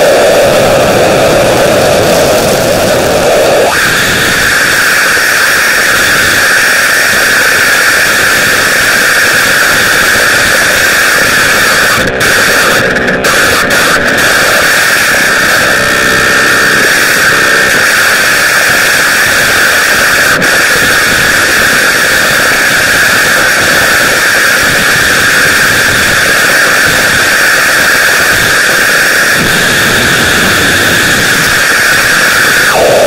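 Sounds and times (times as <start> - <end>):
loud static hiss: 0.0 - 33.0.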